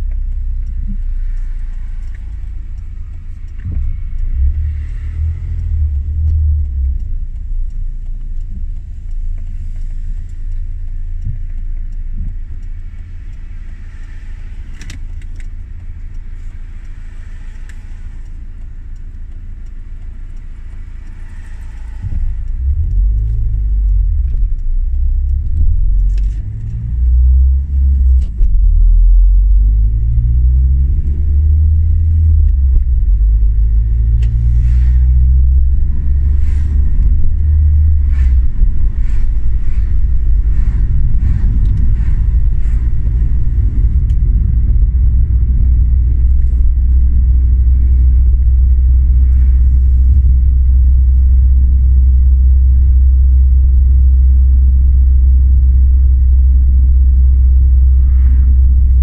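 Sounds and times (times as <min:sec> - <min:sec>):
car engine accelerating: 0:00.0 - 0:59.0
faint ticks: 0:00.0 - 0:59.0
road noise inside car: 0:00.0 - 0:59.0.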